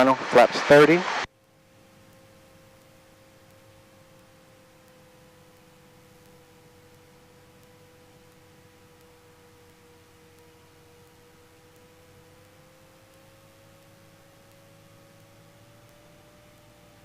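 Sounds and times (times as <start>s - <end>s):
muffled engine drone: 0.0s - 17.0s
thin steady whine: 0.0s - 17.0s.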